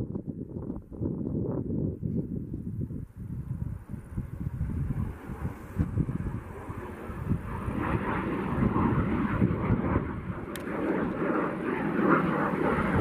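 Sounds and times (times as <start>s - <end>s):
jet engine in flight: 0.0s - 13.0s.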